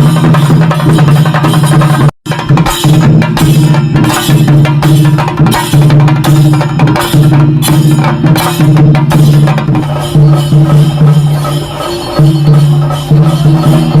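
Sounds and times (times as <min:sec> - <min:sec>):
drums beaten fast: 0:00.0 - 0:14.0.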